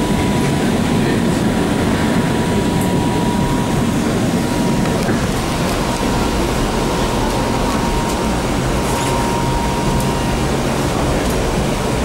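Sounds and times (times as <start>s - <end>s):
thin steady whine: 0.0s - 12.0s
tram wheels rumbling on rail: 0.0s - 12.0s.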